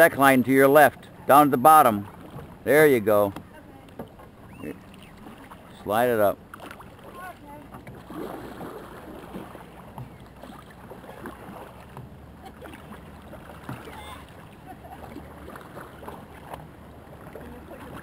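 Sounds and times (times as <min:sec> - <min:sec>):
paddle dipping into water: 0:00.0 - 0:18.0
water lapping at hull: 0:00.0 - 0:18.0.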